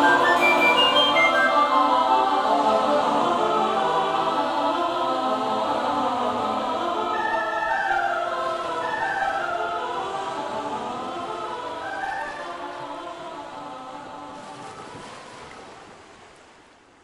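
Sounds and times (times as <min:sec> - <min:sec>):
choir holding long notes: 0:00.0 - 0:15.1.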